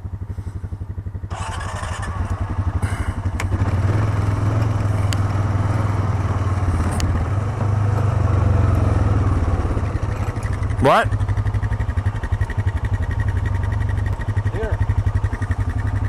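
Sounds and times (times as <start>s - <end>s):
atv engine running under load: 0.0s - 16.0s.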